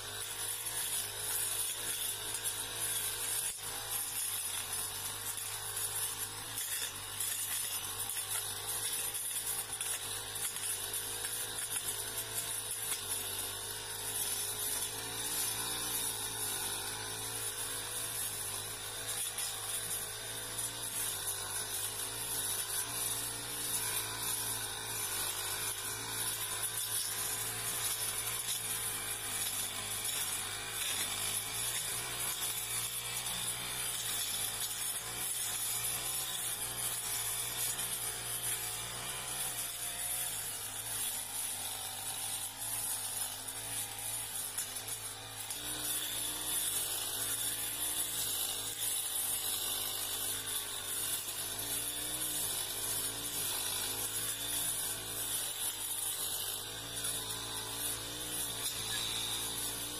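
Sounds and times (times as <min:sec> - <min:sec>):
brush cutter engine running: 0:00.0 - 0:59.9.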